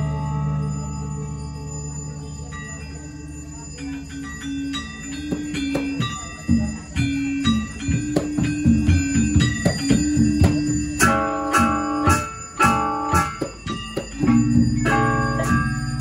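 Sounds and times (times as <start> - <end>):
gamelan ensemble playing: 0.0 - 16.0.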